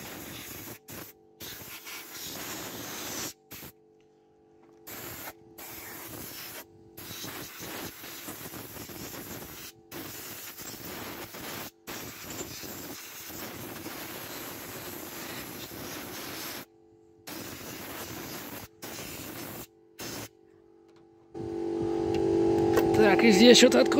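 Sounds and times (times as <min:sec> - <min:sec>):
compressed air gun hissing: 0:00.0 - 0:03.8, 0:04.9 - 0:20.3.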